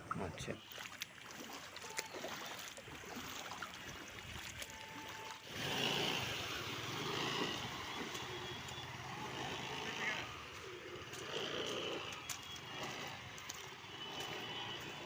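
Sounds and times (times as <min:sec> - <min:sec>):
quiet street noise: 0:00.0 - 0:15.0
vehicle driving through floodwater: 0:00.4 - 0:15.0.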